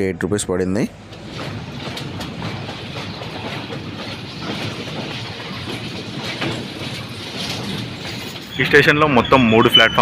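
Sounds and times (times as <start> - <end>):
train rumbling on rails: 0.0 - 10.0
wheel clatter: 1.0 - 10.0.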